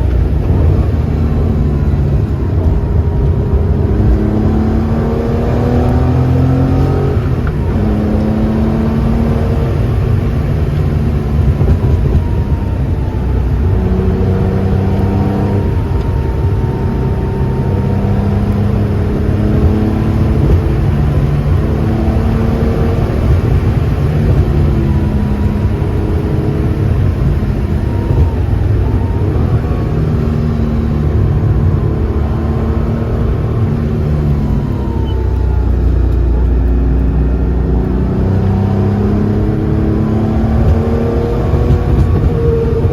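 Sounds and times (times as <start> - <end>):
car engine revving while driving: 0.0 - 42.9.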